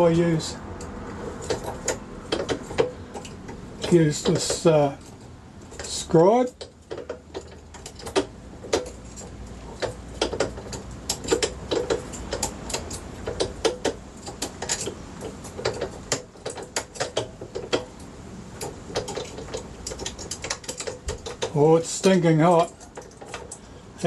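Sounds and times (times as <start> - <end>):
metal scribe clicking and tapping: 0.0 - 23.7.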